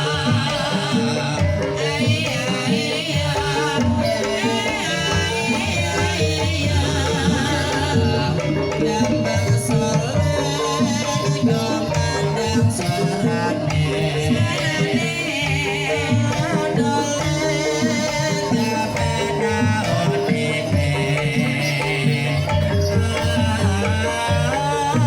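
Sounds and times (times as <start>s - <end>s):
person singing wavering line: 0.0s - 25.0s.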